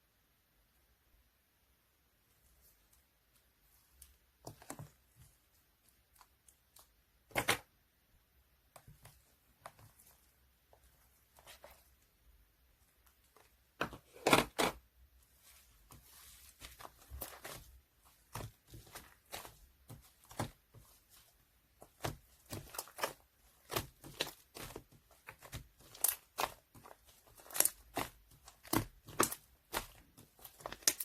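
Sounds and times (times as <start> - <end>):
slime squishing by hand: 2.4 - 31.0.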